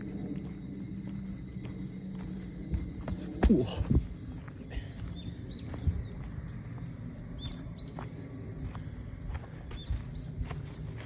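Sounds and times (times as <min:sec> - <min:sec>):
high-pitched insect drone: 0:00.0 - 0:11.0
small birds chirping: 0:00.0 - 0:11.0.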